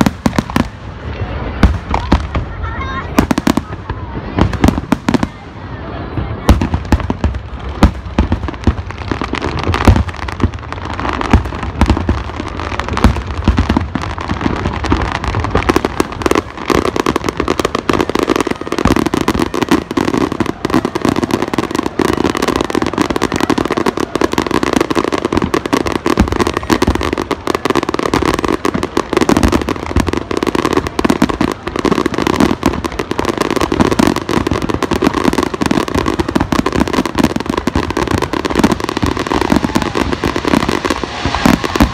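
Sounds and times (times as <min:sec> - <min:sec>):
rapid firework bangs and crackle: 0:00.0 - 0:41.9
deep booming firework bursts: 0:06.4 - 0:41.9.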